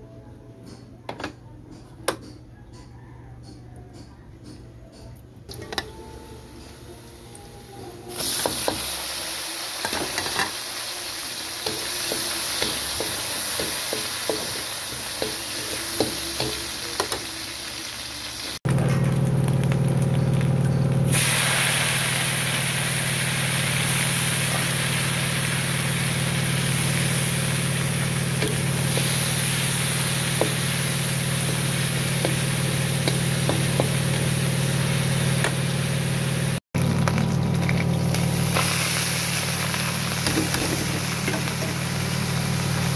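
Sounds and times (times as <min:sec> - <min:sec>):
food sizzling in a wok: 0:06.8 - 0:42.9.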